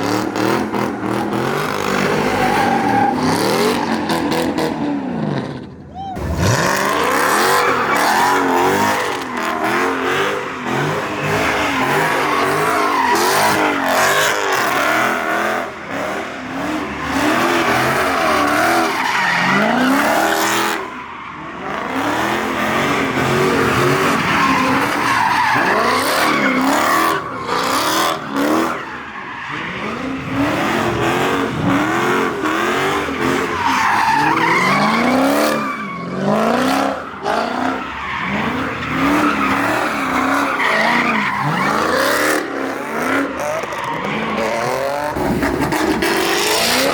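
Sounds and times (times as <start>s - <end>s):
tyres screeching on pavement: 0.0s - 4.8s, 6.0s - 46.9s
car engine revving: 0.0s - 46.9s.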